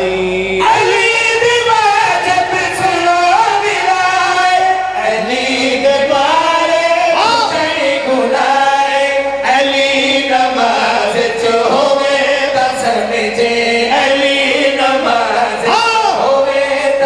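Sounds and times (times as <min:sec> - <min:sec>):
men singing in chorus: 0:00.0 - 0:17.0.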